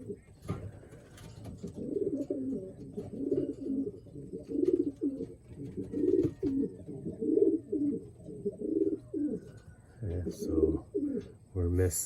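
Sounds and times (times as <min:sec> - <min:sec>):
pigeons cooing: 0:00.0 - 0:11.8.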